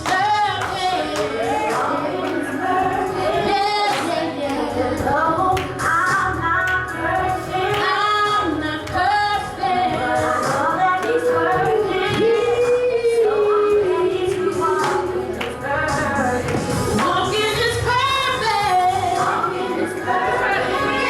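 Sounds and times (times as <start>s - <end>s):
musical accompaniment: 0.0s - 21.0s
woman singing gospel: 0.0s - 21.0s.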